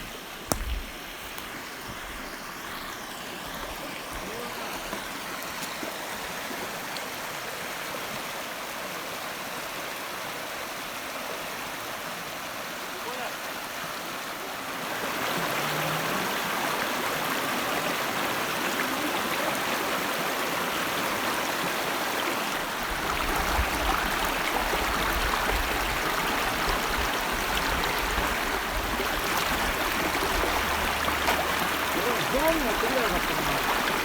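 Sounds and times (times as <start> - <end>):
river running over rocks: 0.0 - 34.0.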